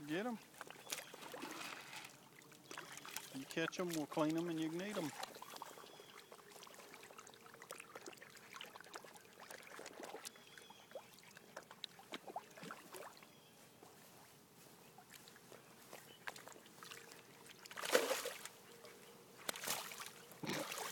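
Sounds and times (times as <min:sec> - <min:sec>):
dog splashing in shallow water: 0:00.4 - 0:13.4, 0:15.0 - 0:20.9.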